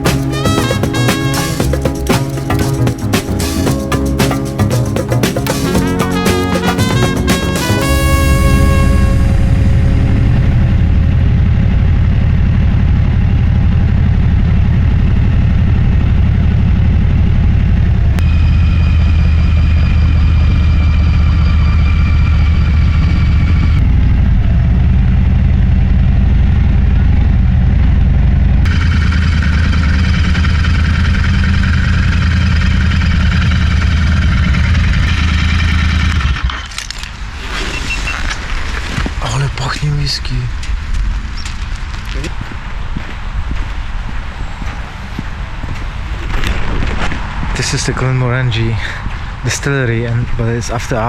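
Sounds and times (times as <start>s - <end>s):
high whine: 0.0s - 48.7s
motorcycle engine rumbling: 0.0s - 50.2s.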